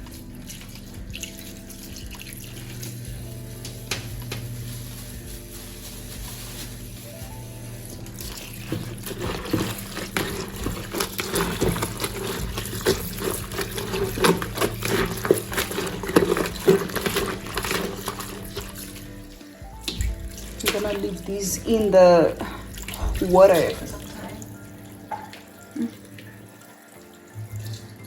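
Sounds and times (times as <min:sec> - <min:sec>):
water sloshing in a basin: 0:00.0 - 0:28.0.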